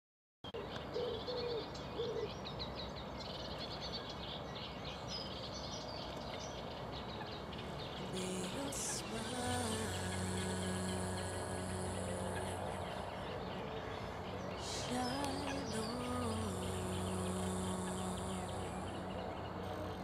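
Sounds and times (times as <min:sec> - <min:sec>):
birds chirping: 0:00.5 - 0:20.0
ambient background hiss: 0:00.6 - 0:20.0.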